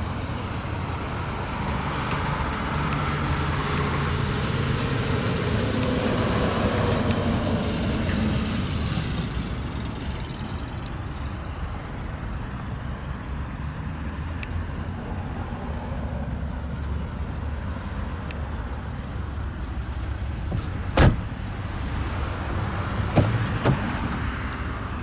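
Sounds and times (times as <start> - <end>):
motor vehicle rumble: 0.0 - 25.0.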